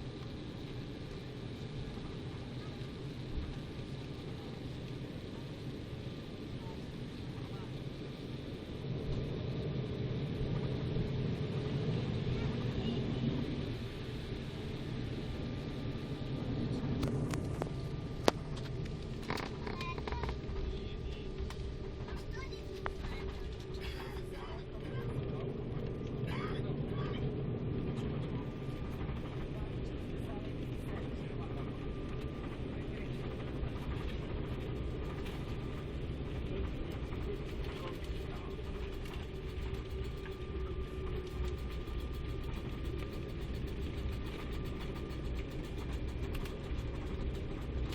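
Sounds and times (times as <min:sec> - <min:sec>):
airliner cabin rumble and hum: 0:00.0 - 0:47.9
faint thin whine: 0:00.0 - 0:47.9.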